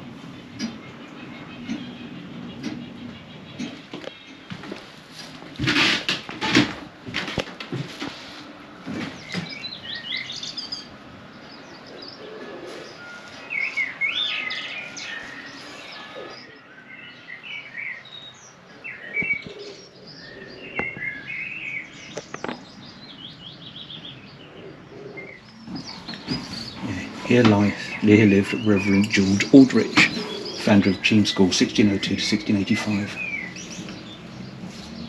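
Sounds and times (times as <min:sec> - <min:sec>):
small birds chirping: 0:00.0 - 0:05.7, 0:08.4 - 0:35.0.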